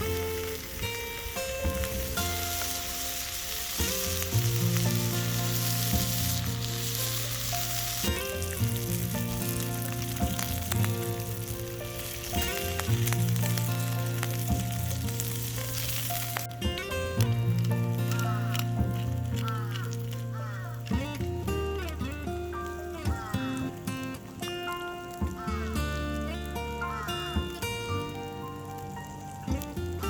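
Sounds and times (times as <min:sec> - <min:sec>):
background music with bass line: 0:00.0 - 0:30.0
food sizzling in a pan: 0:00.0 - 0:30.0.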